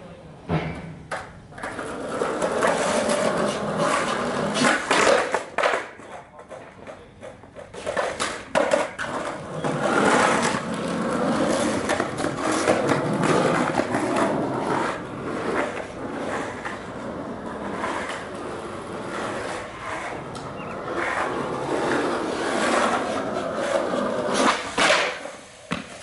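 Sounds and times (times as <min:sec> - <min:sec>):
skateboard clacks: 0:00.8 - 0:26.0
skateboard rolling on asphalt: 0:01.5 - 0:26.0.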